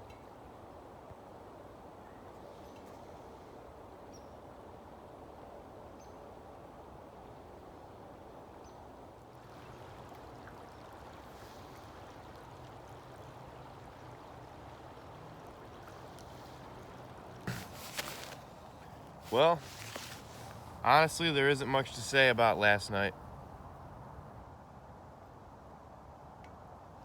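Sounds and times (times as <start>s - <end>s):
faint outdoor rushing noise: 0.0s - 27.0s.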